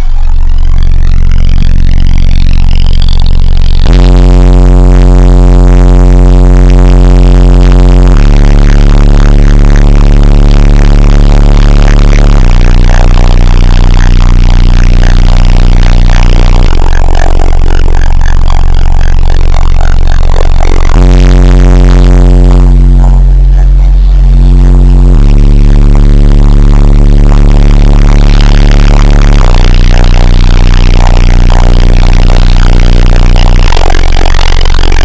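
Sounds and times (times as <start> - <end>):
subwoofer bass test tones: 0.0 - 35.0.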